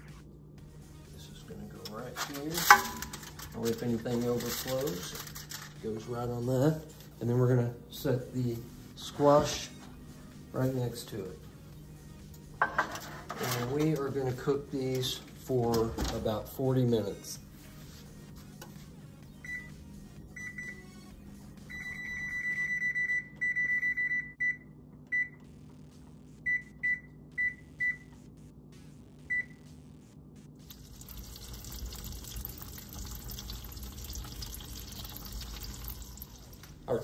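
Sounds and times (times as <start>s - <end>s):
steady low hum: 0.0s - 34.1s.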